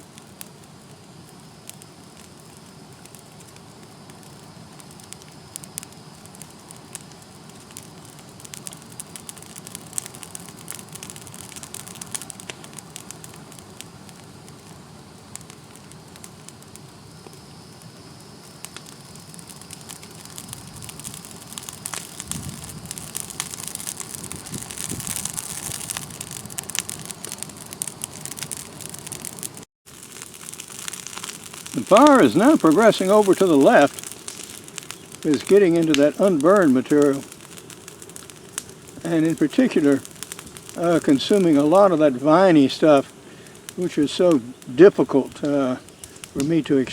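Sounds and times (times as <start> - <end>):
brush fire crackling and popping: 0.0 - 46.9.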